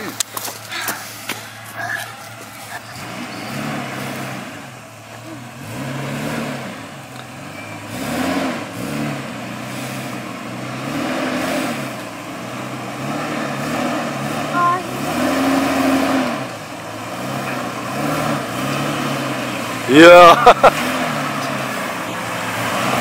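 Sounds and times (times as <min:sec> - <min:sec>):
vehicle engine revving under load: 0:00.0 - 0:23.0.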